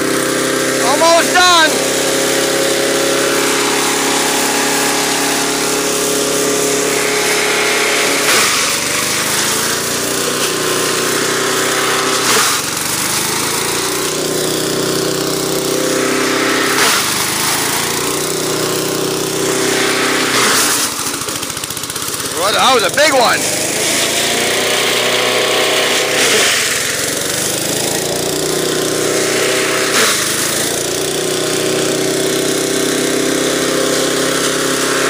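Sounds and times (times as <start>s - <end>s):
small gas engine running: 0.0s - 35.0s
loud crunching in chipper: 0.1s - 35.0s.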